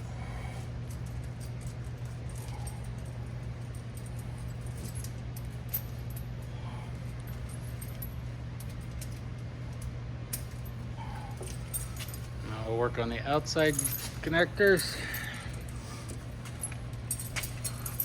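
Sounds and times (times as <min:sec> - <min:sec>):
steady low hum: 0:00.0 - 0:18.0
tire chain links clinking: 0:00.0 - 0:18.0.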